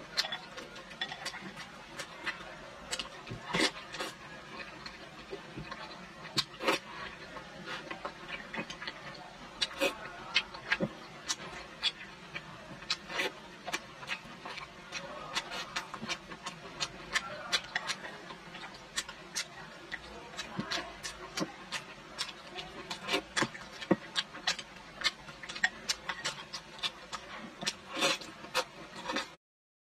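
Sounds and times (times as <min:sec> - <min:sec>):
person chewing with wet smacks: 0:00.0 - 0:29.4.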